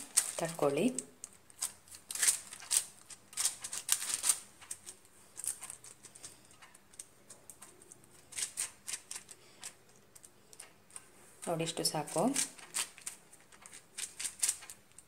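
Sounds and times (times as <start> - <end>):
paper crackling ticks: 0.0 - 11.1, 11.8 - 15.0.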